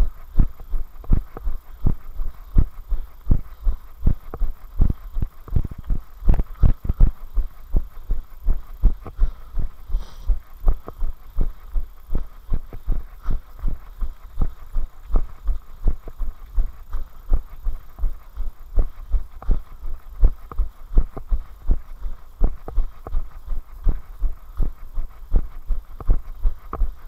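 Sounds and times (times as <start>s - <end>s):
running footsteps on dirt path: 0.0s - 27.0s.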